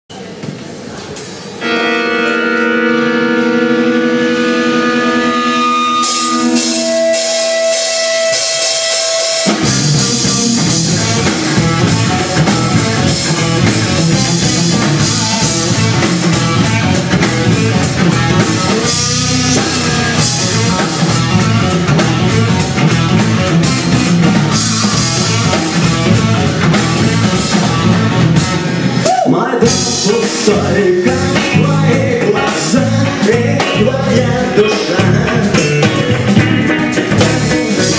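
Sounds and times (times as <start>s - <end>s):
rock band playing: 1.5s - 37.9s
held chords: 1.6s - 37.9s.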